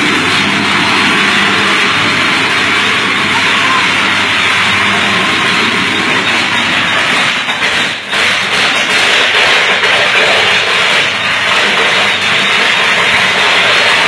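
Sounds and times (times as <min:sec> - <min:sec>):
electrical arcing hissing roar: 0:00.0 - 0:14.0.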